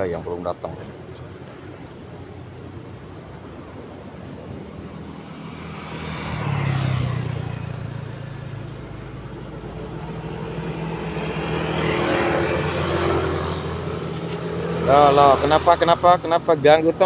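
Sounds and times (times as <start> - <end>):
motor scooters passing: 0.0 - 17.0.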